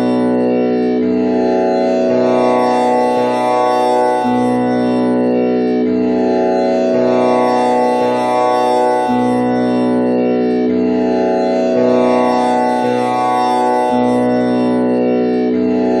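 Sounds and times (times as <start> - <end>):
tanpura drone: 0.0 - 16.0.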